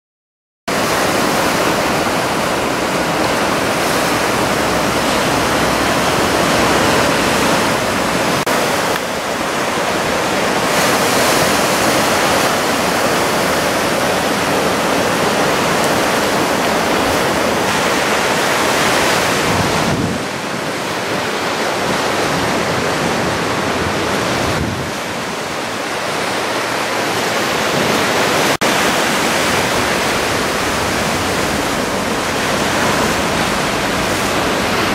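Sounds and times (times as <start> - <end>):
surf breaking on shore: 0.7 - 34.9.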